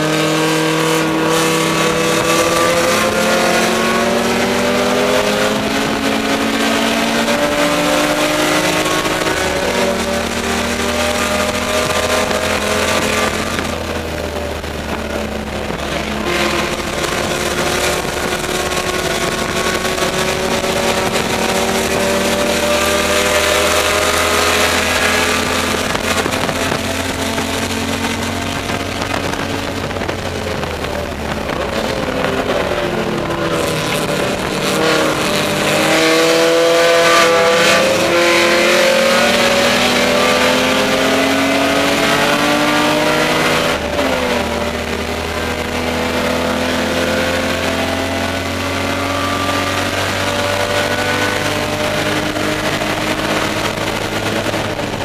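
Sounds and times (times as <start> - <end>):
race car engine at full load: 0.0 - 55.0
wind and road noise: 0.0 - 55.0.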